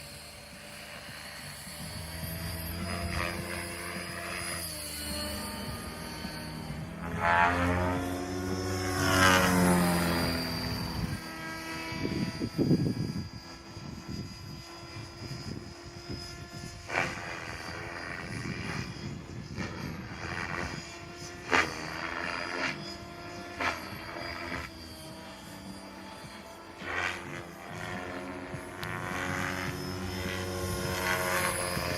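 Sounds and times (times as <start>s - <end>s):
rc helicopter rotor and motor whine: 0.0s - 31.9s.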